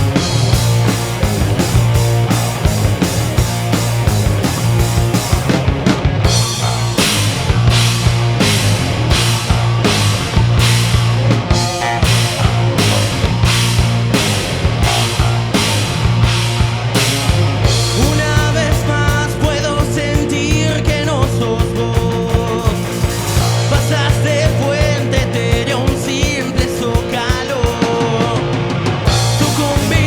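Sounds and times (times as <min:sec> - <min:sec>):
rock band playing live: 0:00.0 - 0:30.0
wavering sliding lead guitar: 0:00.0 - 0:30.0.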